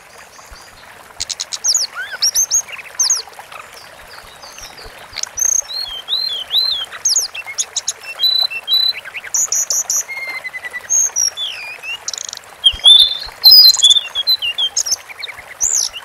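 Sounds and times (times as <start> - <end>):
bird singing: 1.3 - 16.0.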